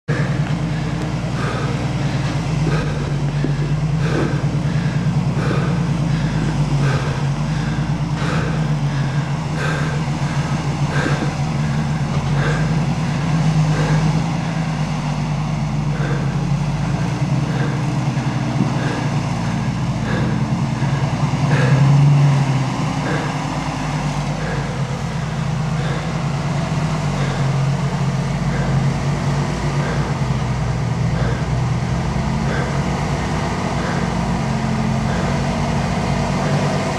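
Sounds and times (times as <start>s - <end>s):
car engine droning at low revs: 0.0s - 36.9s
light regular ticking: 0.1s - 36.9s.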